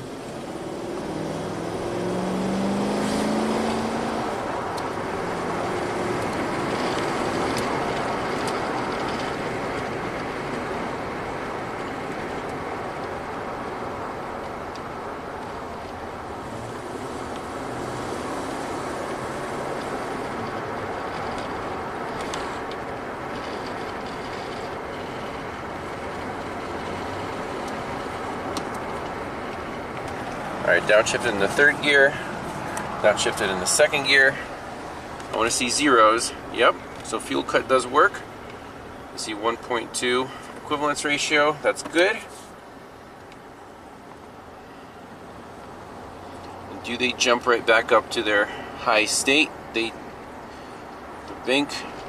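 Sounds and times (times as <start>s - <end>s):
truck engine accelerating: 0.0s - 44.5s
road noise: 0.0s - 52.0s.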